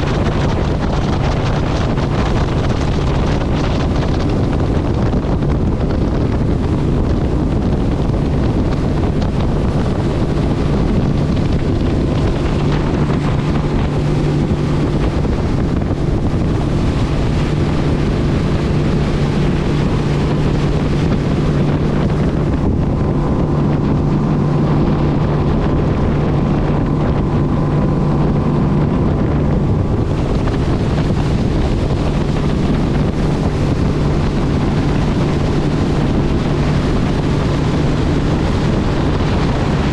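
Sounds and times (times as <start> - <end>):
engine running steadily: 0.0 - 39.9
wind noise on microphone: 0.0 - 39.9.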